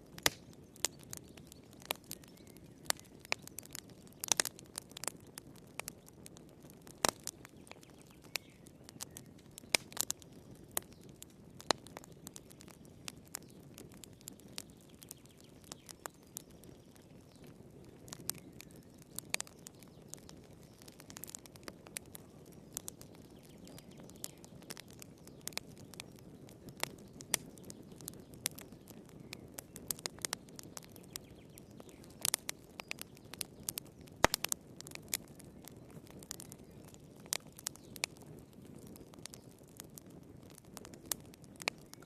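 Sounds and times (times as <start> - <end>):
low rumble of flames: 0.0 - 42.0
wood fire crackling and popping: 0.0 - 42.0.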